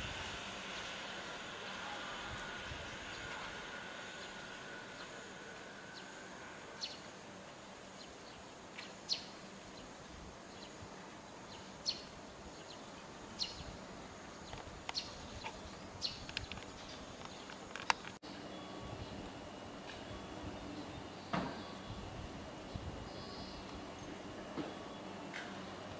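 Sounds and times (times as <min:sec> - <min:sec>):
small birds chirping: 0:01.6 - 0:25.9.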